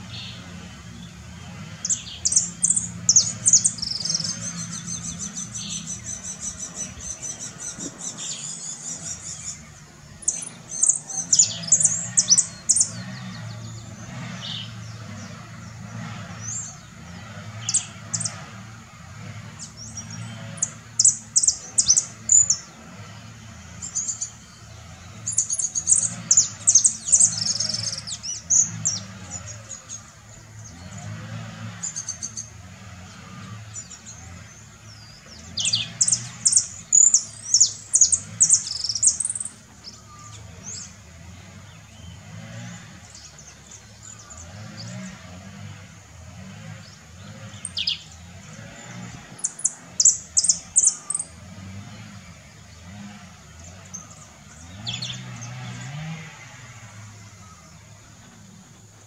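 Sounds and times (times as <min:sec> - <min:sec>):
finch singing high chirps: 0:00.0 - 0:18.8, 0:19.5 - 0:45.3, 0:46.8 - 0:52.8, 0:53.5 - 0:56.0.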